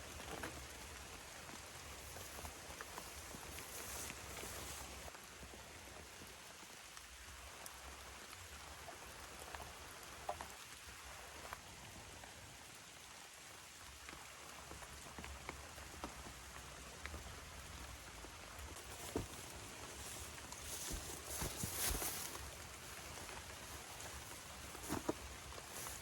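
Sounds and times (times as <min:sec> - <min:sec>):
rain on foliage: 0:00.0 - 0:26.0.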